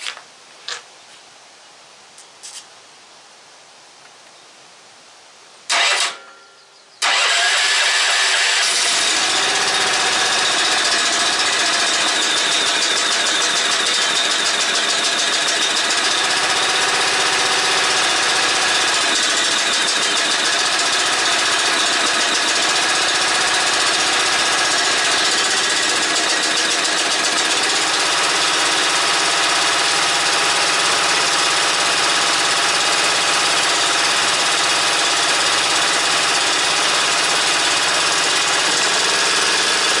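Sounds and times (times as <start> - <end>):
engine pull-starting and running: 5.7 - 6.2, 7.0 - 40.0.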